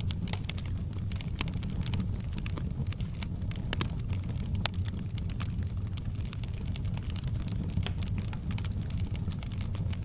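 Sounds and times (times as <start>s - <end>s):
fire crackling and popping: 0.0s - 10.0s
low rumble of flames: 0.0s - 10.0s.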